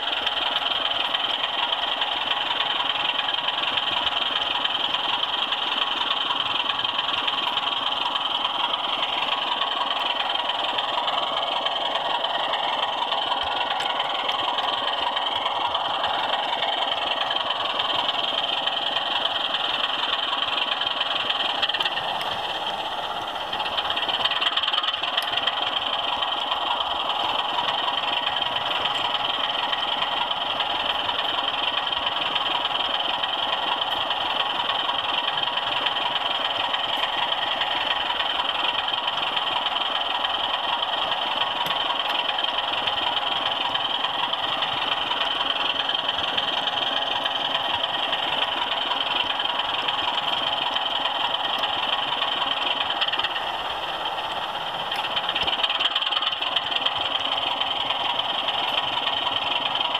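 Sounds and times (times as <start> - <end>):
model train wheels rolling: 0.0 - 59.9.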